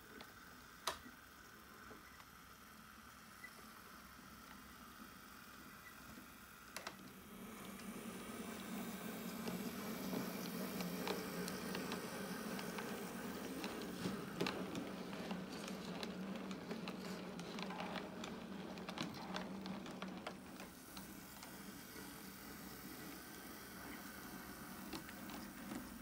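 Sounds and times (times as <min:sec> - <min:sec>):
faint model train motor hum: 0:00.0 - 0:26.0
model train wheels clicking: 0:00.0 - 0:26.0.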